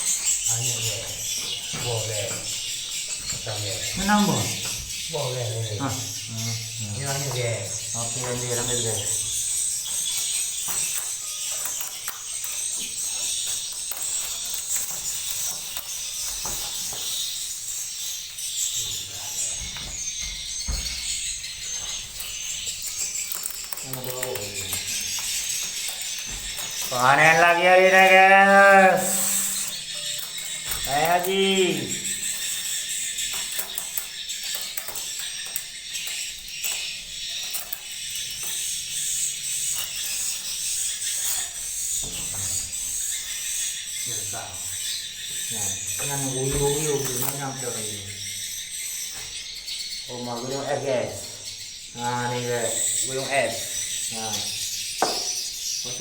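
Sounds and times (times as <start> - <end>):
swiftlets twittering: 0.0 - 56.0.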